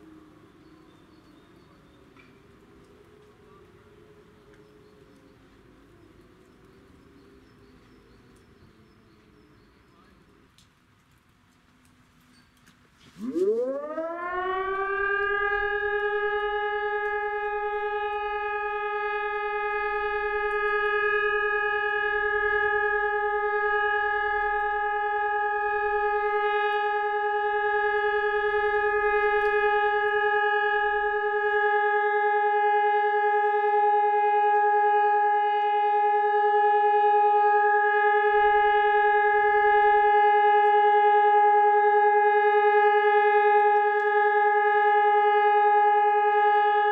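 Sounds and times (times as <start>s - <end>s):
civil defence siren steady tone: 0.0s - 46.9s.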